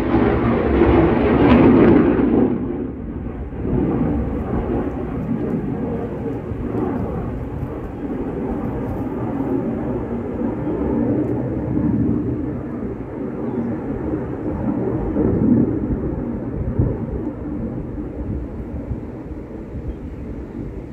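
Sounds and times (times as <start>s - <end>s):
aircraft rumble overhead: 0.0s - 20.9s.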